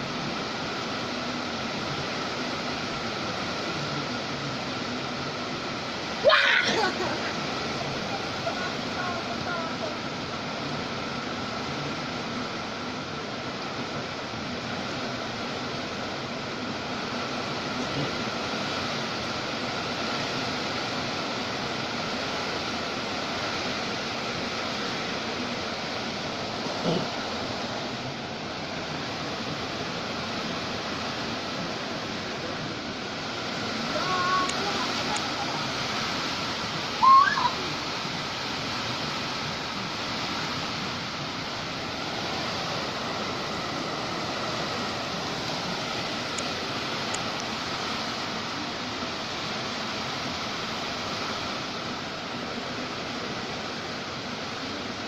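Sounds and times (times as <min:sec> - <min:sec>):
rain: 0:00.0 - 0:55.0.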